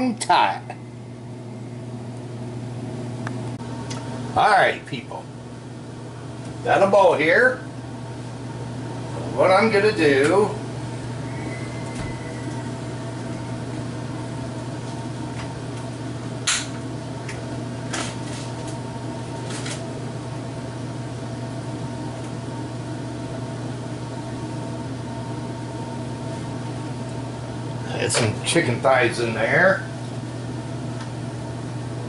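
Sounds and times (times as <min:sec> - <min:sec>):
appliance or fan humming: 0:00.0 - 0:32.0.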